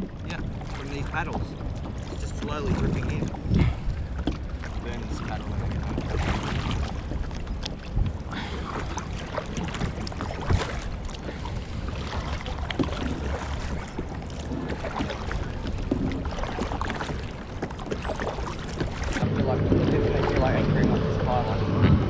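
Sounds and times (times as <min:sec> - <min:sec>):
wind on microphone: 0:00.0 - 0:17.6, 0:18.2 - 0:22.0
paddle splashing in water: 0:00.0 - 0:22.0.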